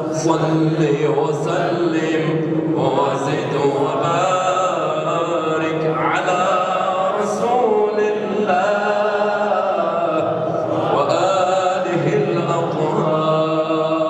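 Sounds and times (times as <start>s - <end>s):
person chanting a devotional hymn: 0.0s - 14.0s.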